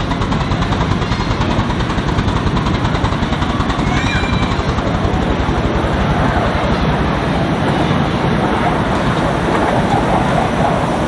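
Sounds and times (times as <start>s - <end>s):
steam locomotive exhaust beating: 0.0s - 11.0s.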